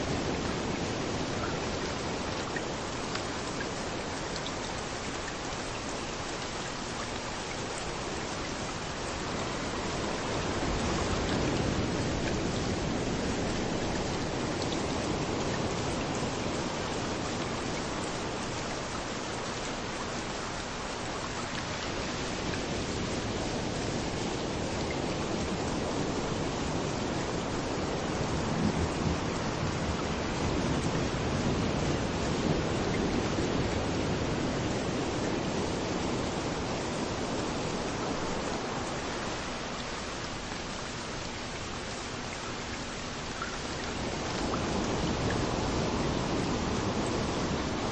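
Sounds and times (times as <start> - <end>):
rain falling: 0.0 - 47.9
waves rolling in: 0.0 - 47.9.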